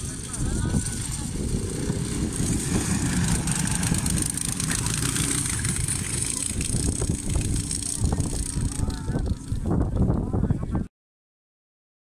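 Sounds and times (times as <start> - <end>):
small kart engines passing: 0.0 - 10.2.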